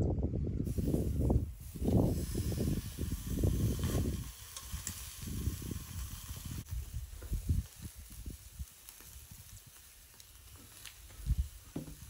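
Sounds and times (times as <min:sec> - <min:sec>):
meat sizzling on grill: 0:00.7 - 0:12.0.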